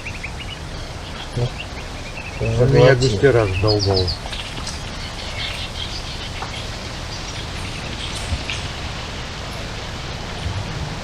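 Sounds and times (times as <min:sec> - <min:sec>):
faint bird chirps: 0:00.0 - 0:09.7
wind noise on microphone: 0:00.0 - 0:11.0.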